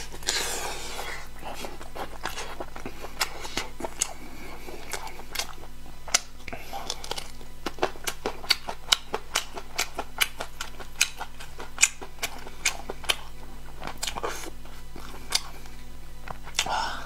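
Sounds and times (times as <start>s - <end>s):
chewing mouth clicks and smacks: 1.4s - 16.7s.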